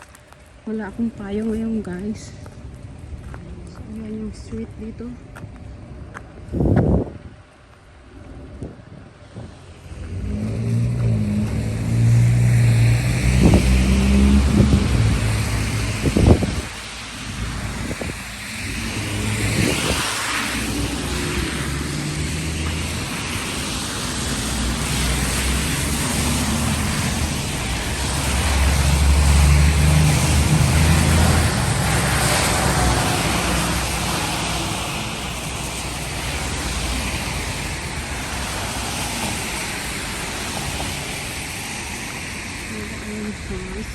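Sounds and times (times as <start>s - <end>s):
cars passing on wet street: 0.0s - 43.9s.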